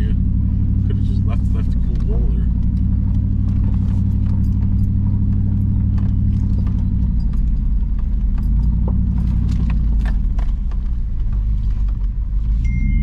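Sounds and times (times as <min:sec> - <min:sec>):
truck engine running: 0:00.0 - 0:13.0
tyres clicking over rocks: 0:01.9 - 0:12.4.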